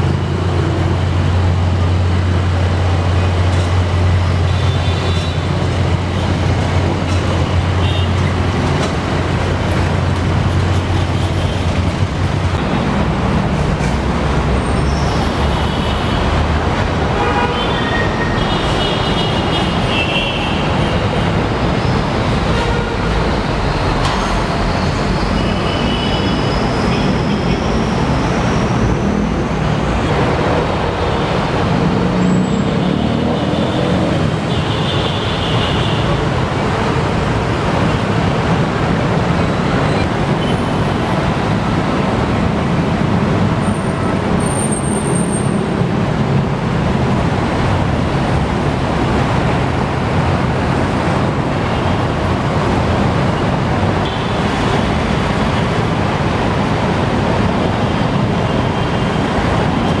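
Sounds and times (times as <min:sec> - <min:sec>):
city road traffic: 0:00.0 - 1:00.0.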